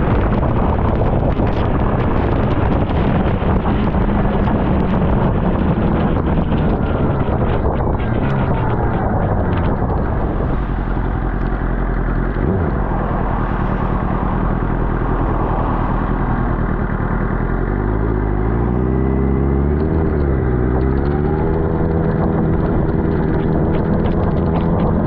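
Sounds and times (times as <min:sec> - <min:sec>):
motorcycle engine running: 0:00.0 - 0:25.0
rushing wind: 0:00.0 - 0:25.0
wet road noise: 0:00.0 - 0:25.0.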